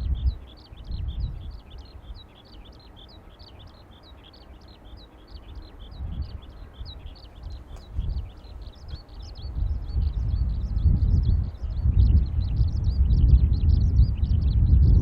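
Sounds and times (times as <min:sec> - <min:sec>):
small bird chirping rapidly: 0:00.0 - 0:14.8
wind buffeting microphone: 0:00.0 - 0:15.0.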